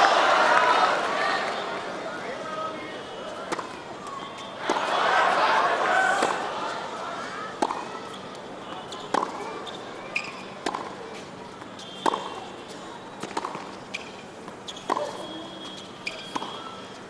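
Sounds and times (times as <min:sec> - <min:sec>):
crowd murmur: 0:00.0 - 0:17.0.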